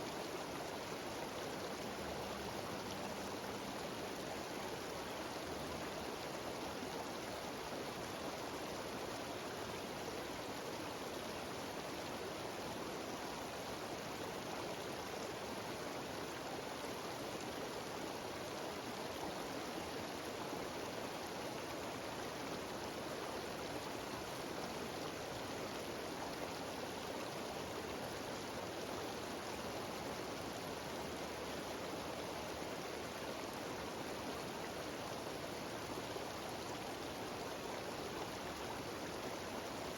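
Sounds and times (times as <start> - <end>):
waterfall over rocks: 0.0 - 39.9.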